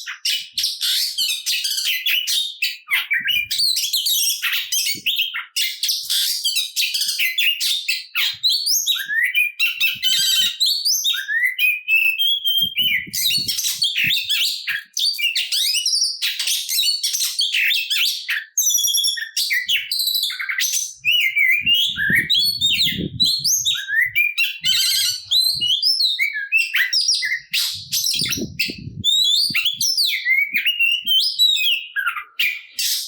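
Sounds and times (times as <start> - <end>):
bird singing varied whistles: 0.2 - 33.0.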